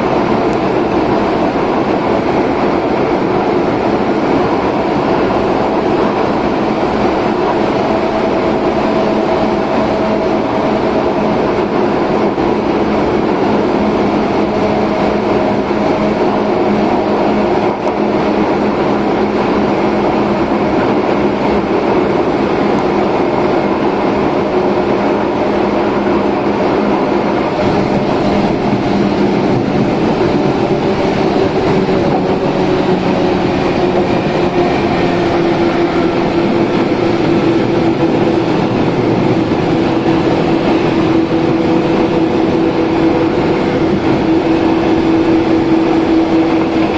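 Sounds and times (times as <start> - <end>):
train rumble: 0.0 - 46.9.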